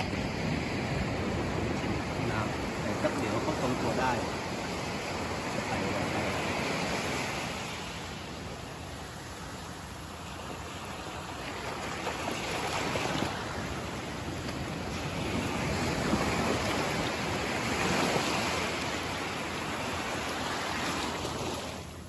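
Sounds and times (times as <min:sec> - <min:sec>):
small waves washing over sand: 0:00.0 - 0:22.0.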